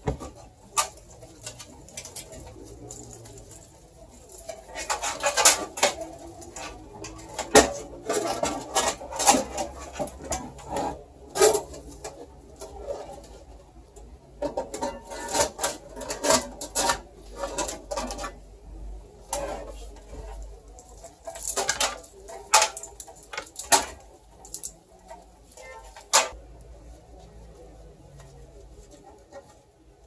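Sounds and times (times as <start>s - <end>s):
rustling of cables: 0.0s - 30.0s.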